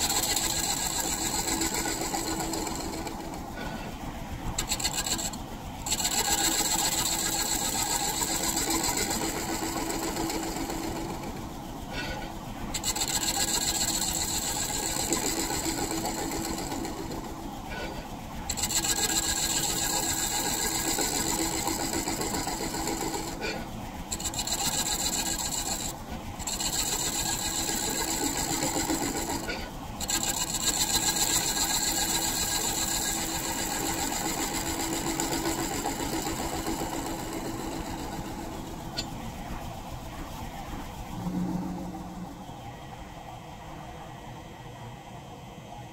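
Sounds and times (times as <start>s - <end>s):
scraper rasping on spinning wood: 0.0s - 42.5s
lathe humming: 0.0s - 45.1s.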